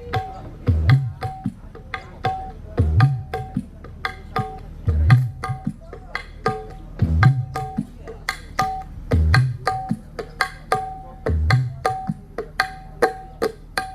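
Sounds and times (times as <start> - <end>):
hand drum groove: 0.0 - 13.9.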